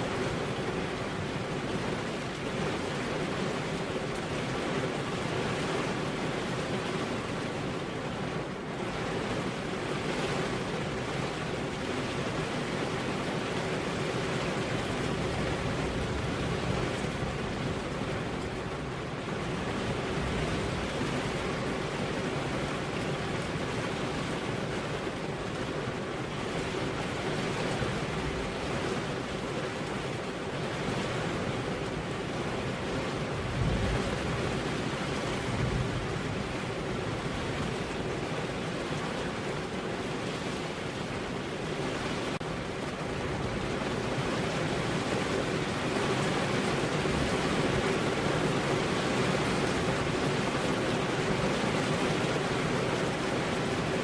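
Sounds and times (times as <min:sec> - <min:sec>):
rain: 0:00.0 - 0:54.0
wind: 0:00.0 - 0:54.0.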